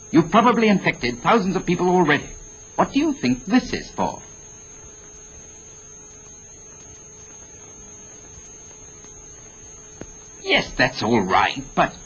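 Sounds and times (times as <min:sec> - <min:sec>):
constant high tone: 0:00.0 - 0:12.0
constant low tone: 0:00.0 - 0:12.0
film soundtrack hiss and hum: 0:00.0 - 0:12.0.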